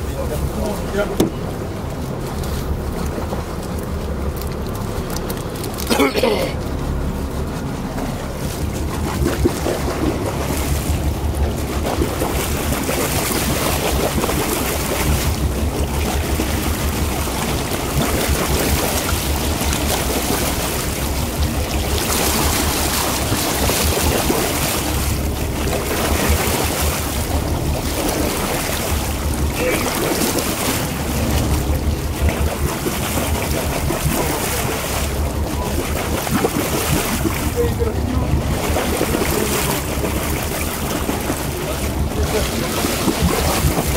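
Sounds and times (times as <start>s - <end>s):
steady low rumble: 0.0s - 43.9s
water sloshing: 0.0s - 43.9s
wind buffeting microphone: 7.2s - 43.9s.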